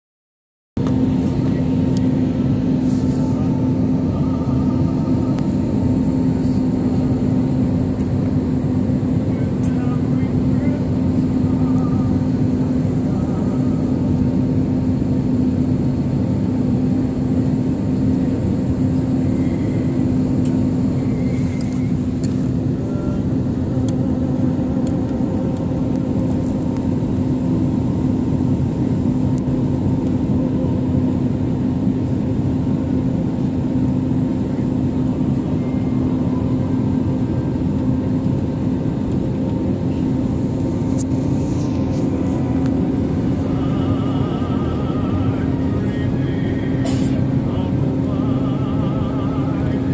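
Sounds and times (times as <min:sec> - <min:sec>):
constant low hum: 0:00.8 - 0:49.9
jet engines and airflow rushing: 0:00.8 - 0:49.9.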